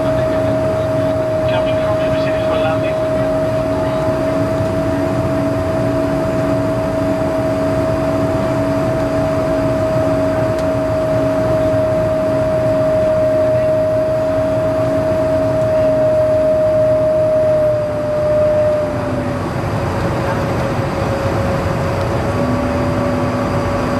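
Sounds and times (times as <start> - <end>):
jet engine whine and rumble: 0.0 - 23.9.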